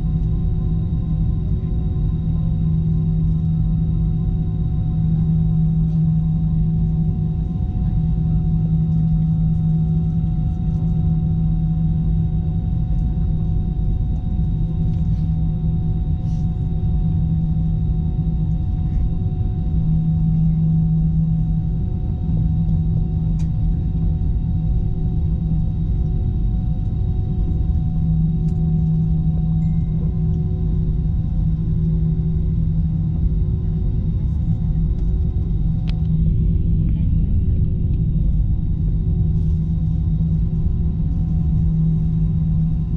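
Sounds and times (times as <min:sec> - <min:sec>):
aircraft cabin engine drone: 0:00.0 - 0:42.9.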